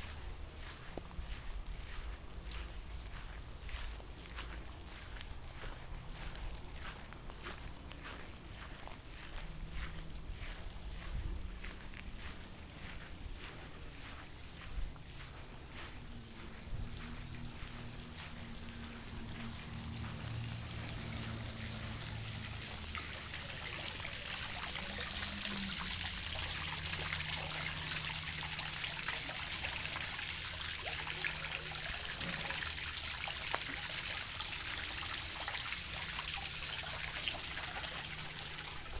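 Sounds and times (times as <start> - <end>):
water trickling into pond: 0.0 - 39.0.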